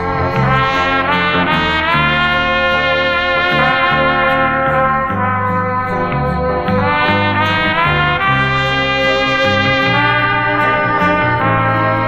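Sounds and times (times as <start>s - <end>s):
trumpet over brass ensemble: 0.0s - 12.0s.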